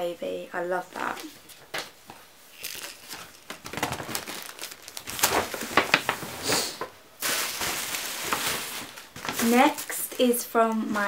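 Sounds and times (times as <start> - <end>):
paper bags crinkling and rustling: 1.0 - 11.0.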